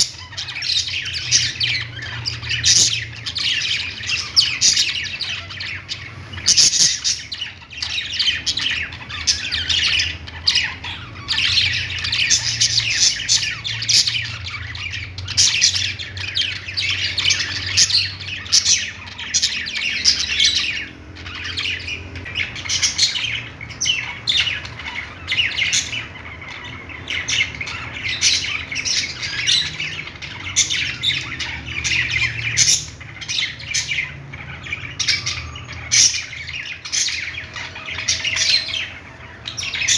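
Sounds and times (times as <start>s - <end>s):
budgies chattering and squawking: 0.0s - 39.9s.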